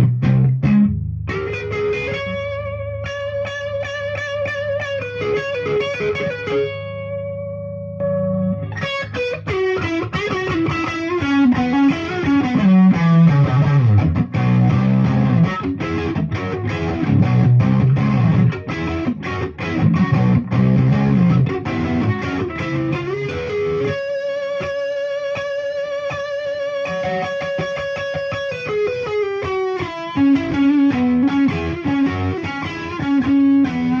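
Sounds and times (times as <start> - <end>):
electric guitar lead lines: 0.0 - 34.0.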